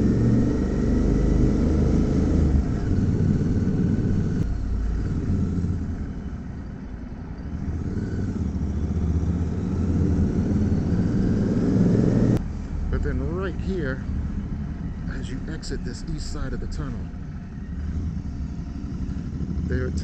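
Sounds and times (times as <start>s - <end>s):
motorcycle engine in tunnel: 0.0s - 20.0s.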